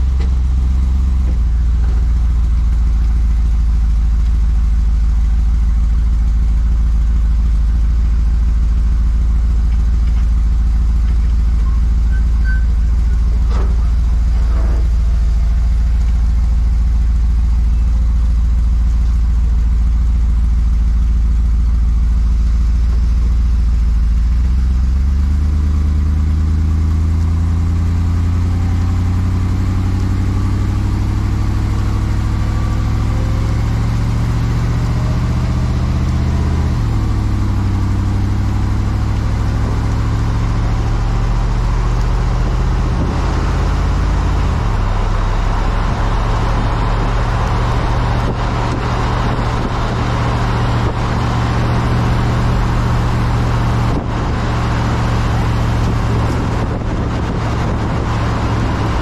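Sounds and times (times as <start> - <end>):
truck engine idling and accelerating: 0.0 - 59.0
tyre and road noise: 0.0 - 59.0.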